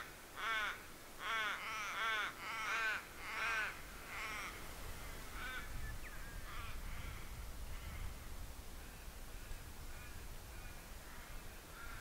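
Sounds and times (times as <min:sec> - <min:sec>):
ravens calling: 0:00.0 - 0:08.1, 0:08.8 - 0:12.0.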